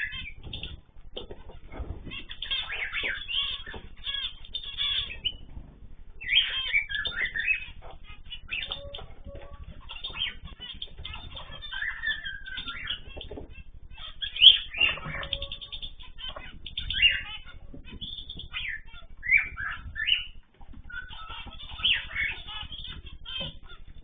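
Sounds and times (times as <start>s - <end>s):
cage birds chirping: 0.0s - 24.0s.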